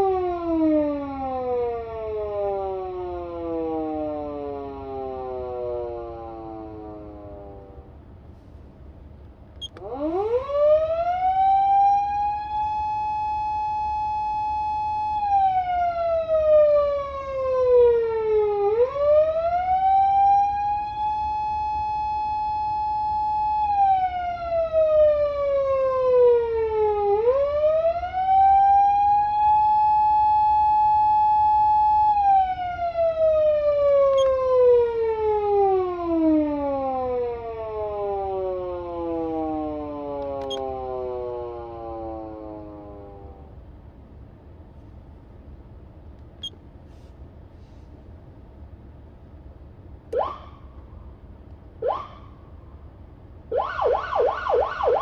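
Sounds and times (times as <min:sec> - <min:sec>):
police siren wail: 0:00.0 - 0:08.0, 0:09.7 - 0:43.7, 0:50.1 - 0:50.8, 0:51.8 - 0:52.6, 0:53.5 - 0:55.0.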